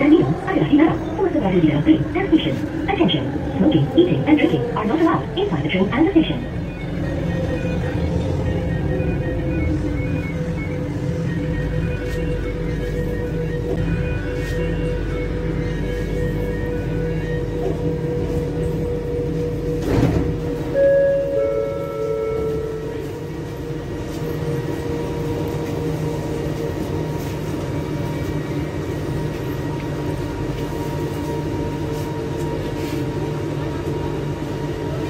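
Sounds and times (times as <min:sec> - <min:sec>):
train carriage hum: 0:00.0 - 0:35.0.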